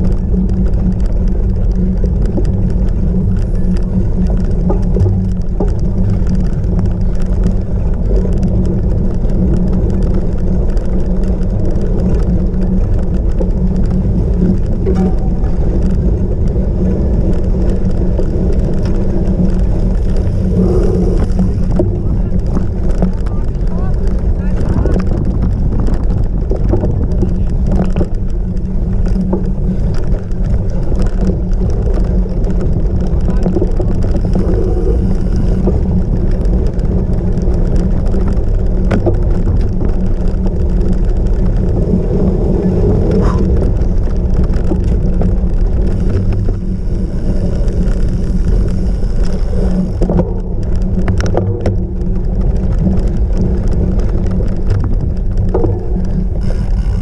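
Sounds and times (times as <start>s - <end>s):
bike knocks and rattles: 0.0s - 57.0s
wind rushing over microphone: 0.0s - 57.0s.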